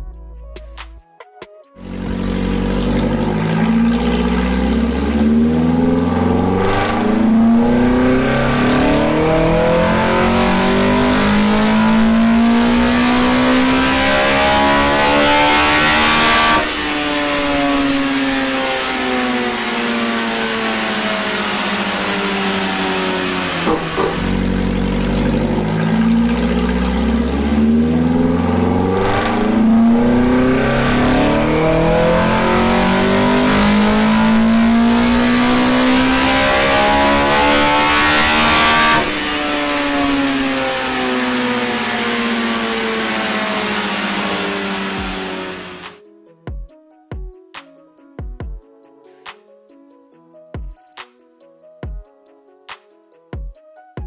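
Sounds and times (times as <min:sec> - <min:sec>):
four-cylinder engine revving: 0:01.8 - 0:46.0.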